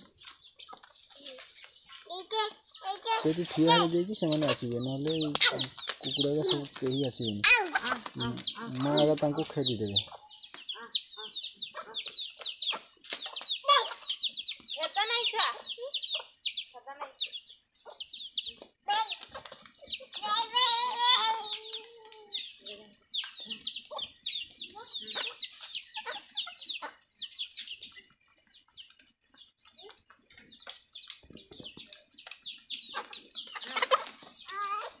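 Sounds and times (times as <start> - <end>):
chickens chirping: 0.0 - 35.0.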